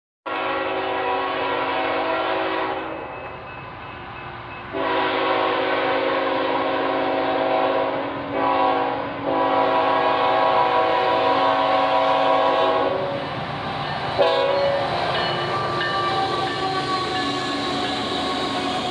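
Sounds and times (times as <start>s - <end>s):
locomotive air horn blasts: 0.3s - 3.0s, 4.7s - 13.1s, 14.2s - 14.8s, 15.5s - 18.9s.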